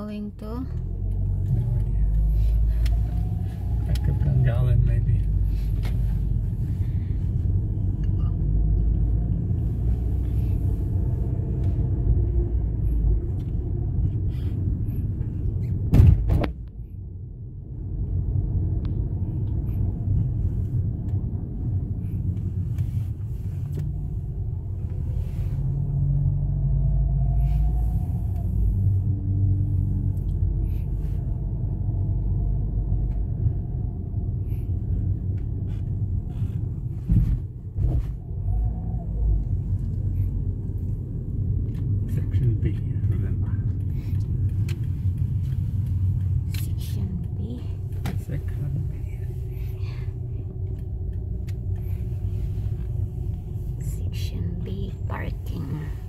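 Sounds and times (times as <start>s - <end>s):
car cabin rumble: 0.0s - 56.0s.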